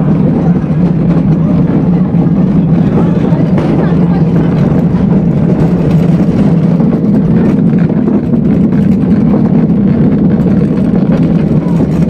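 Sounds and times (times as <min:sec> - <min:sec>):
cart wheels rumbling on concrete: 0:00.0 - 0:12.0.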